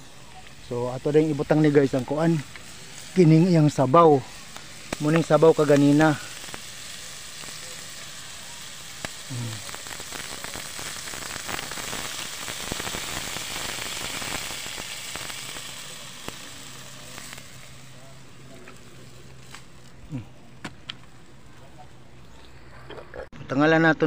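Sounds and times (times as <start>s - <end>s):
broth sizzling in a hot wok: 0.0s - 22.6s.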